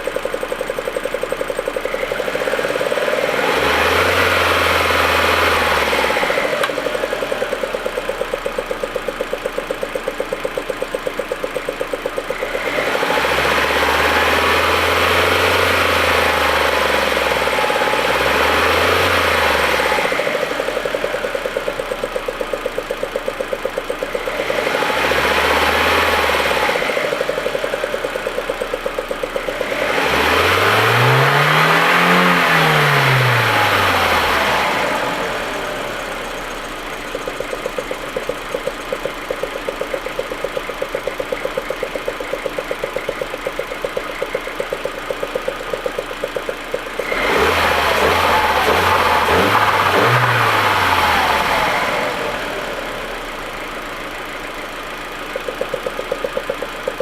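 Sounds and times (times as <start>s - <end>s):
car engine rough idle and revving: 0.0s - 57.0s.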